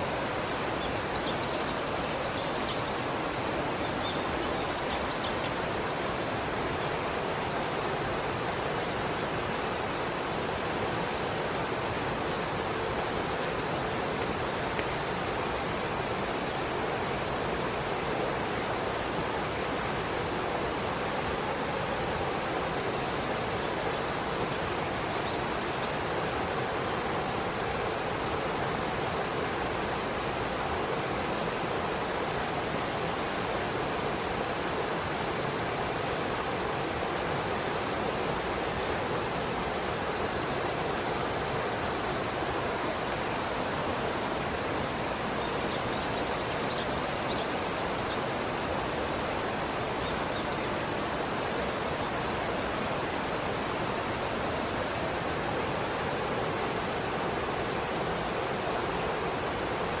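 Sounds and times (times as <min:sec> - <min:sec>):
flowing water: 0:00.0 - 1:00.0
high-pitched insect chorus: 0:00.0 - 1:00.0.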